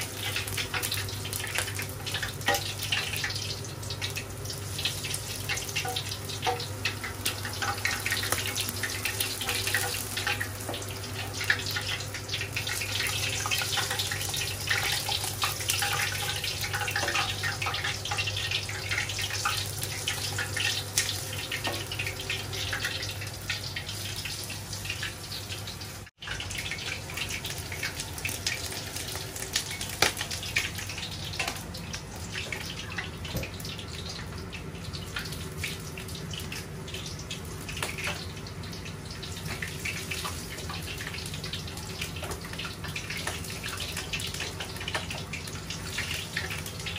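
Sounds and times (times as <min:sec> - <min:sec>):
hot oil sizzling and popping: 0:00.0 - 0:46.9.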